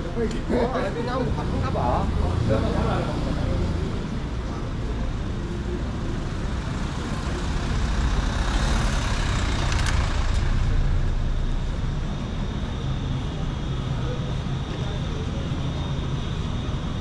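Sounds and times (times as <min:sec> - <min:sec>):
heavy vehicle engine drone: 0:00.0 - 0:17.0
street traffic: 0:00.0 - 0:17.0.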